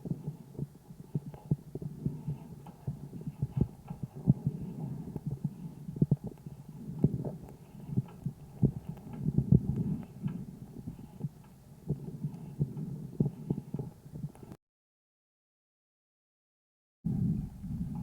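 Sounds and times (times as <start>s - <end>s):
low breath sounds: 0.0s - 14.6s.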